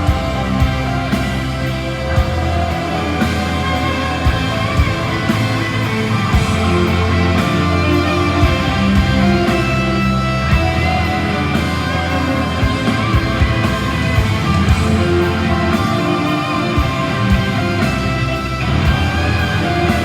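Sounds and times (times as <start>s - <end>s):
bass guitar: 0.0s - 20.0s
electric guitars: 0.0s - 20.0s
steady drum beat: 0.0s - 20.0s.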